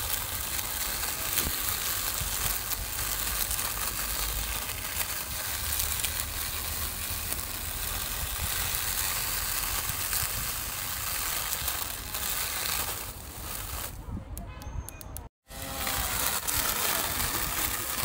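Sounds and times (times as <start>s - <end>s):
grass trimmer whirring: 0.0s - 14.0s, 15.4s - 18.0s.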